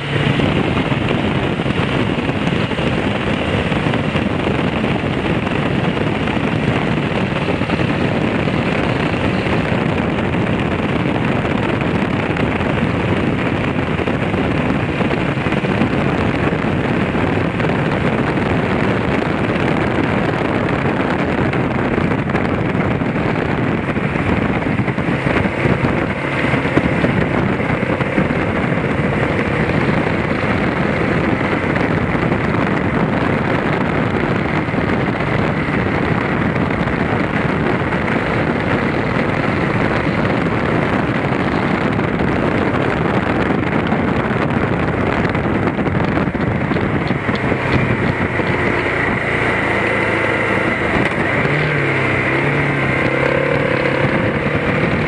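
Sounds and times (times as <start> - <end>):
motorcycle engine: 0.0 - 55.0
wind rushing on microphone: 0.0 - 55.0.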